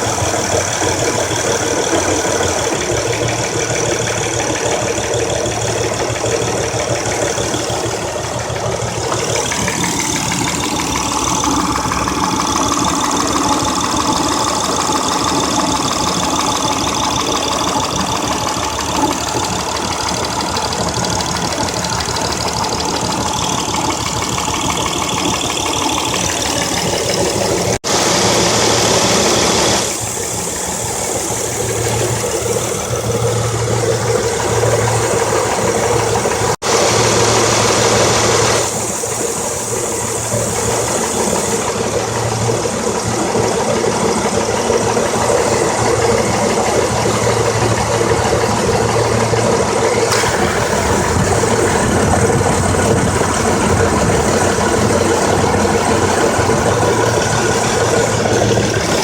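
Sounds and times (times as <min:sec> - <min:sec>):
car engine misfiring: 0:00.0 - 0:59.0.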